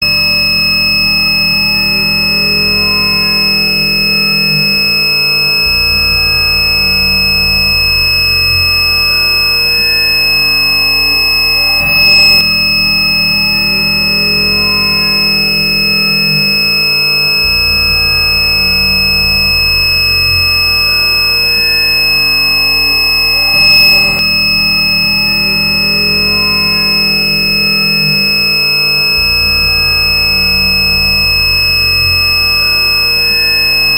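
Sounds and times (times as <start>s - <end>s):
high-pitched electronic beep tone: 0.0s - 33.9s.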